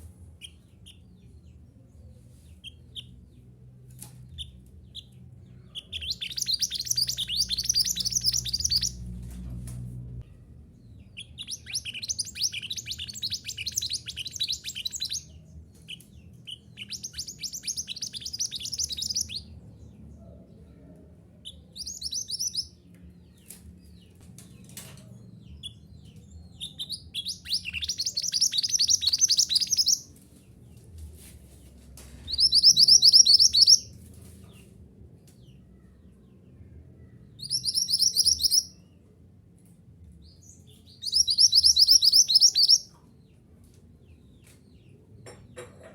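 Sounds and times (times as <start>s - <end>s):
songbird chirping trills: 0.0s - 9.6s, 10.2s - 39.3s, 40.0s - 43.5s
faint low hum: 0.0s - 45.9s.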